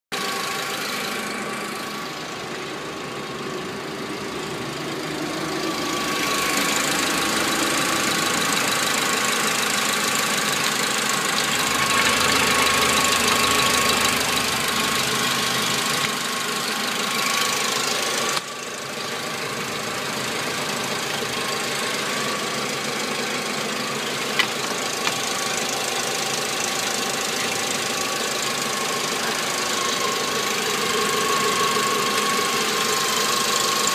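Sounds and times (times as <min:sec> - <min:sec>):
car engine idling: 0:00.2 - 0:33.9
steady engine whine: 0:00.2 - 0:33.9.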